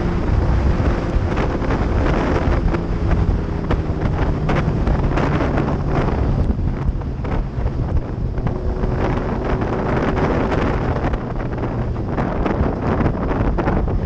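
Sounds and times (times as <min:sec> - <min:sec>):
motorbike engine running: 0:00.0 - 0:14.0
wind buffeting microphone: 0:00.0 - 0:14.0.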